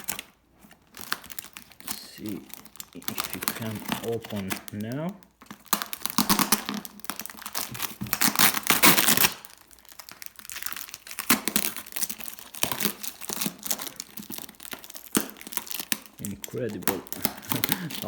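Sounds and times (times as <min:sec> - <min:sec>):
crinkling: 0:00.0 - 0:18.0
packing tape ripping: 0:00.0 - 0:18.0.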